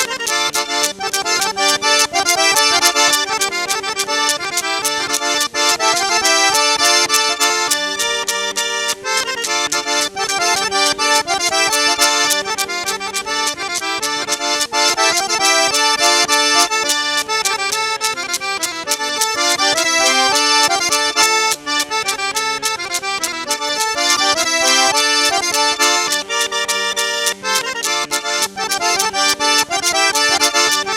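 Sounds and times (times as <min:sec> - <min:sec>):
accordion folk music: 0:00.0 - 0:30.9.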